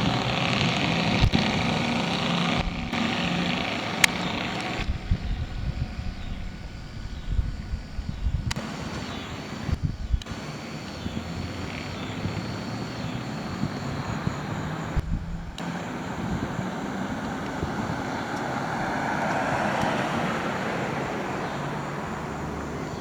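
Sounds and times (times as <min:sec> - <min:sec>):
helicopter rotor and turbine: 0:00.0 - 0:23.0.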